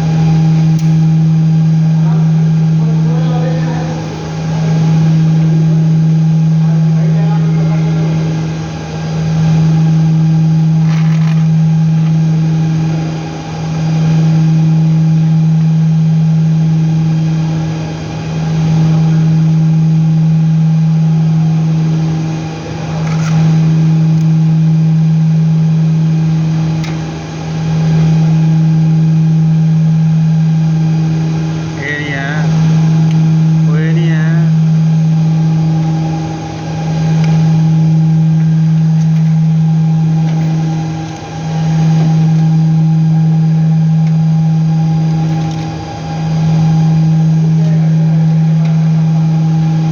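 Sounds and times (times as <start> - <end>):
low machine hum: 0.0 - 49.9.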